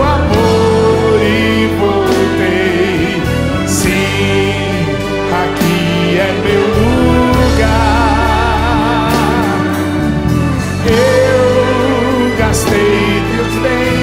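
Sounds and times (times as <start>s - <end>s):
live band playing worship song: 0.0s - 14.0s
person singing: 0.0s - 14.0s.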